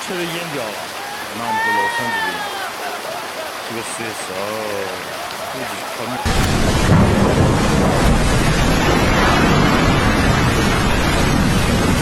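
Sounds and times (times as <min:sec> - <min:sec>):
fast water rushing: 0:00.0 - 0:12.0.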